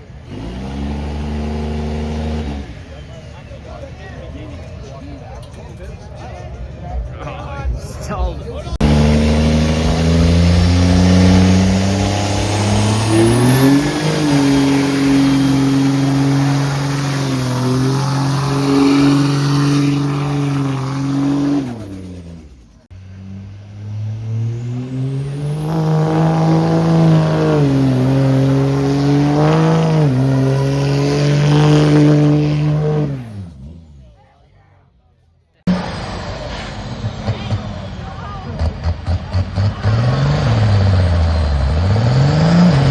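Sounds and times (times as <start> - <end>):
truck engine revving: 0.0 - 5.0, 8.6 - 34.4, 35.6 - 42.9.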